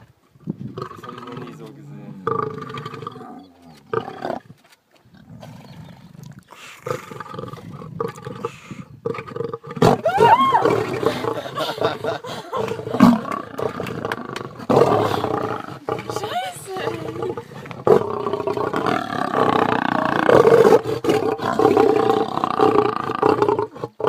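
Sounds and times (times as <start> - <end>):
lion roaring: 0.7 - 4.4, 5.2 - 24.0.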